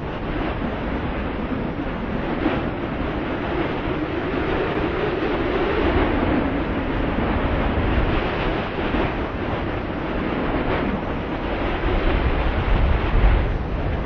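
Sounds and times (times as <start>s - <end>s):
strong wind blowing: 0.0s - 14.0s
wind gusts buffeting microphone: 0.0s - 14.0s.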